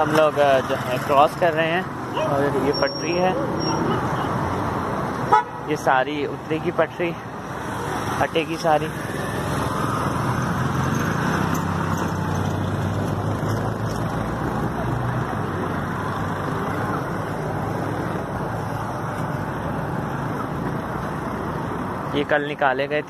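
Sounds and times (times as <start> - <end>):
auto-rickshaw engine hum: 0.0 - 23.0
road noise: 0.0 - 23.0.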